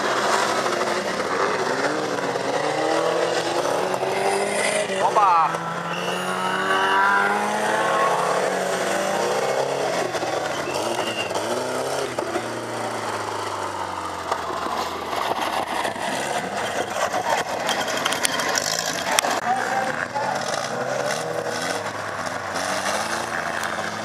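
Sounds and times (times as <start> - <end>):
car engines revving: 0.0 - 24.0
tyre and track noise: 0.0 - 24.0.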